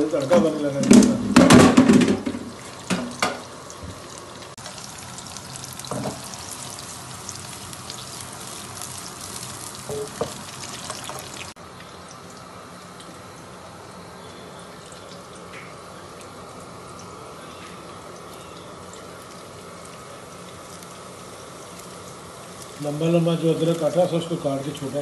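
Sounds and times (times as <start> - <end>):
ghee sizzling in frying pan: 1.4 - 25.0.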